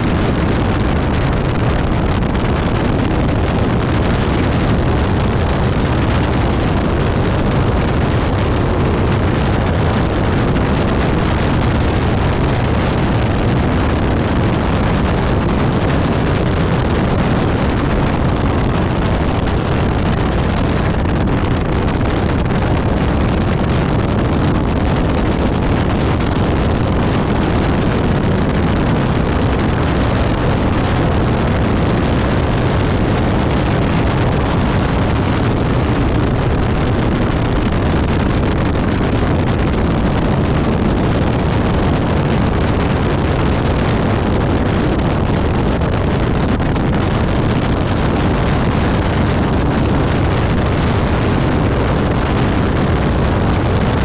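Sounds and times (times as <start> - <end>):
car engine running at speed: 0.0 - 54.0
wind buffeting on microphone: 0.0 - 54.0.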